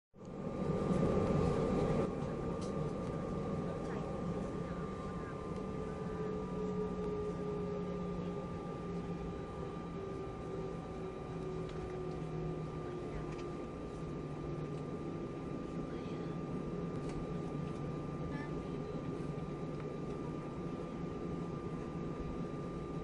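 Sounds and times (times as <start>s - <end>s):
airplane cabin hum and rush: 0.2s - 23.0s.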